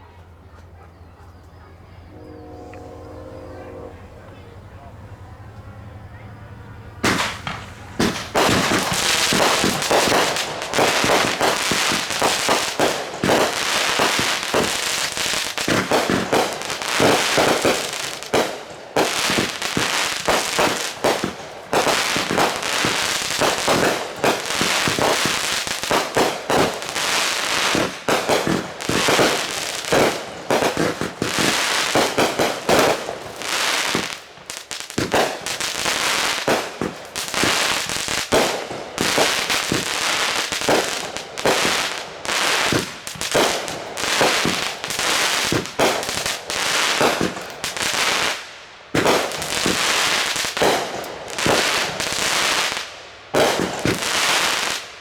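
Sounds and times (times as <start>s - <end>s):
fireworks banging and crackling: 5.6s - 55.0s.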